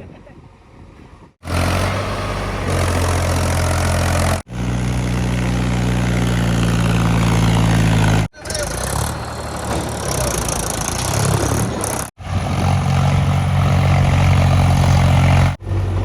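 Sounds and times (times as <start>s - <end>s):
diesel farm machinery engines: 1.4s - 16.0s.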